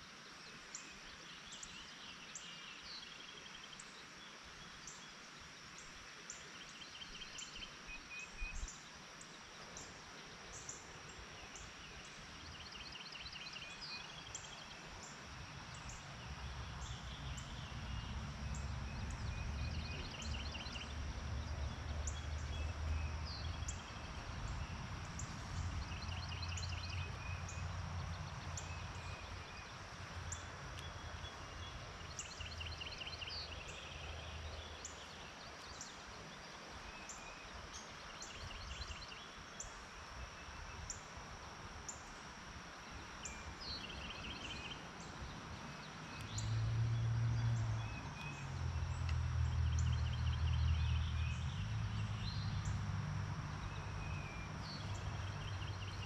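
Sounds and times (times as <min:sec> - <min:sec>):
songbirds singing trills: 0:00.4 - 0:41.0, 0:42.8 - 0:56.0.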